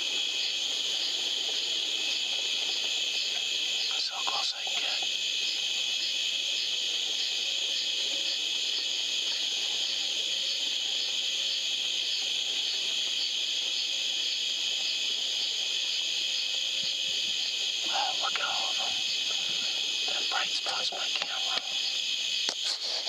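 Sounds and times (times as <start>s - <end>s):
night insects buzzing: 0.0s - 23.0s.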